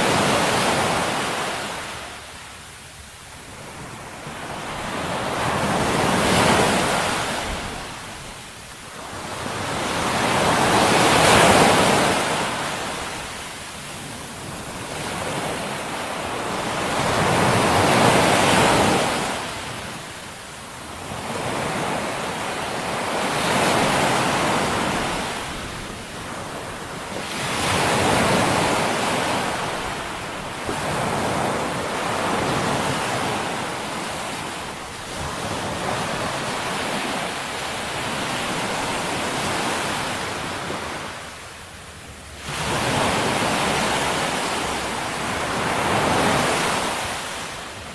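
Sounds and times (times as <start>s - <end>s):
ocean waves washing in: 0.0s - 47.9s.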